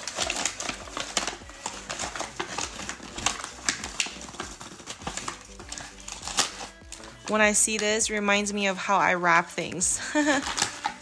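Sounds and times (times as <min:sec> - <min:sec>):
wrapping paper rustling and crinkling: 0:00.0 - 0:08.0, 0:09.9 - 0:11.0.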